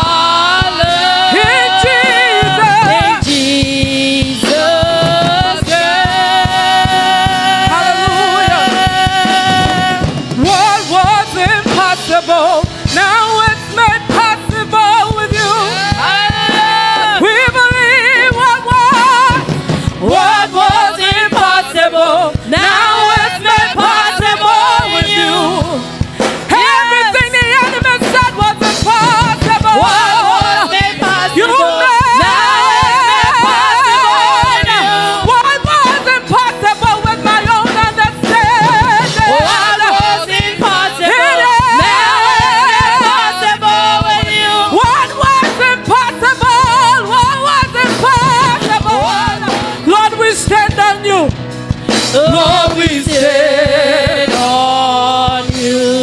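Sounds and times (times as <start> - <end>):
musical accompaniment: 0.0 - 56.0
voices singing with vibrato: 0.0 - 56.0.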